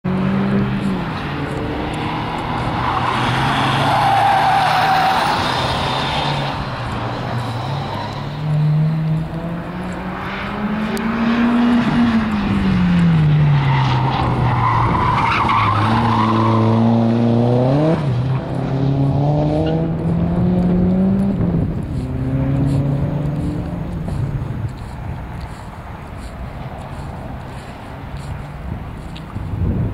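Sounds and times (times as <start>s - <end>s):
car engine revving: 0.0s - 24.3s.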